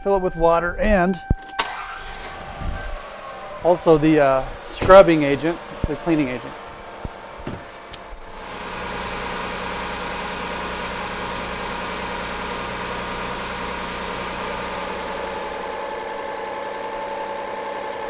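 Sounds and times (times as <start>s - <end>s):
car engine idling: 1.6s - 18.0s.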